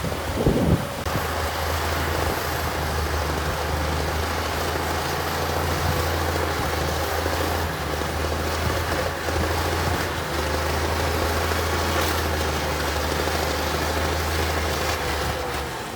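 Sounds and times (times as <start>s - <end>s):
heavy diesel engine droning: 0.0s - 15.9s.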